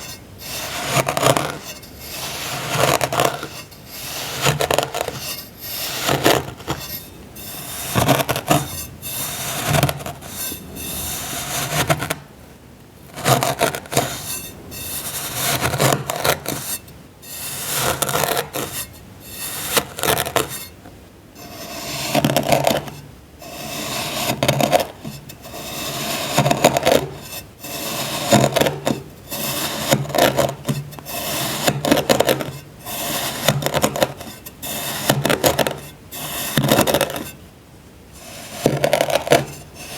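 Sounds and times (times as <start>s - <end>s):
tool scraping packed sand: 0.0s - 12.3s, 13.1s - 20.8s, 21.4s - 37.4s, 38.2s - 39.9s.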